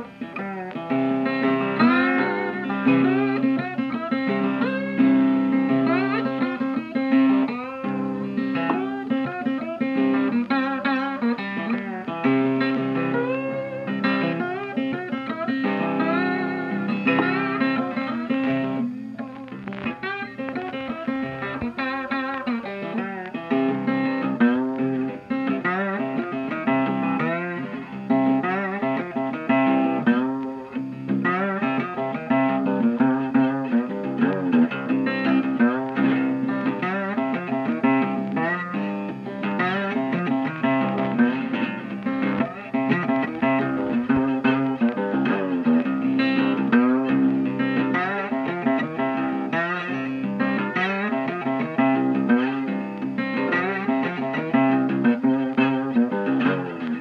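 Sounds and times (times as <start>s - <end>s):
plucked and strummed guitar: 0.0s - 57.0s.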